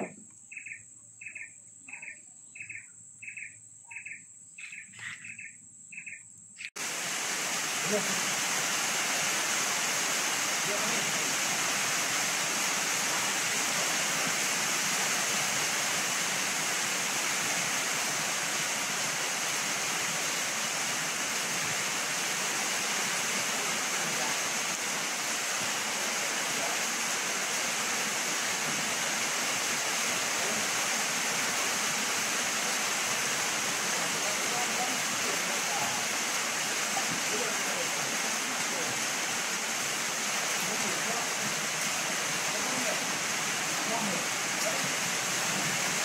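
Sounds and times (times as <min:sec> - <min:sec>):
steady rain falling: 0:06.7 - 0:46.0.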